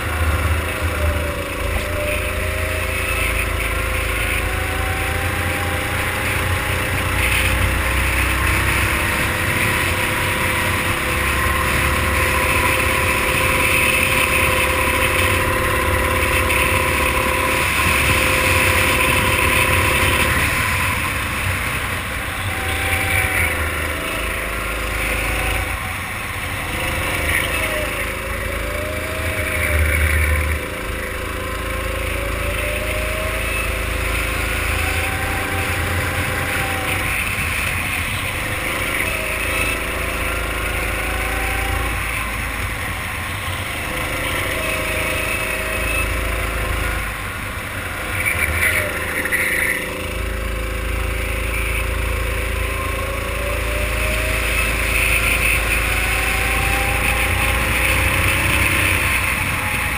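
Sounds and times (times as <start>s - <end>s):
racing kart engine revving: 0.0s - 59.9s.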